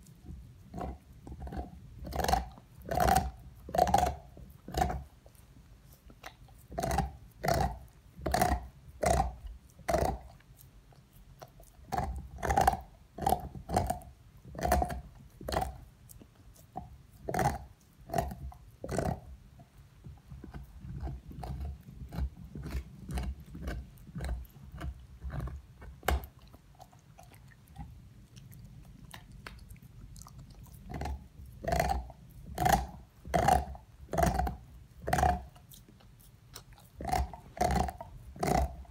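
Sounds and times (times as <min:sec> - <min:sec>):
dog chewing on bone: 0:00.0 - 0:38.9.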